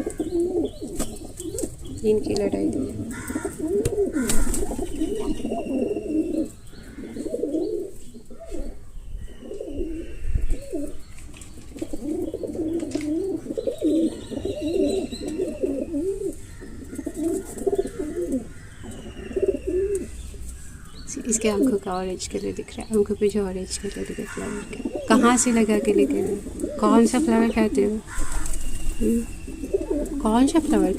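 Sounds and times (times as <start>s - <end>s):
birds warbling cooing chatter: 0.0s - 30.9s.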